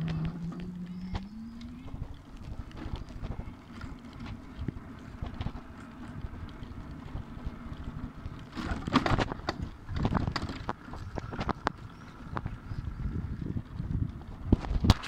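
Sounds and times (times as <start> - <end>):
scooter wheels rumbling: 0.0 - 15.0.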